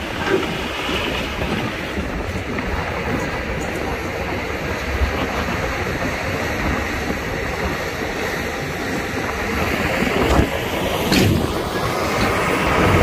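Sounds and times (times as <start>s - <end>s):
heavy diesel machinery rumbling: 0.0s - 13.0s.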